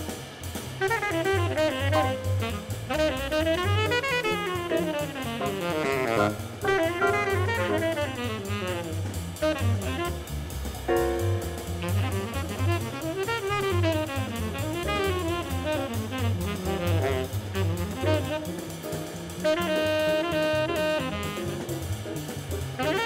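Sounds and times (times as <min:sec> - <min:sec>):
bass line: 0:00.0 - 0:23.0
busy drums: 0:00.0 - 0:23.0
horn soloing: 0:00.8 - 0:23.0.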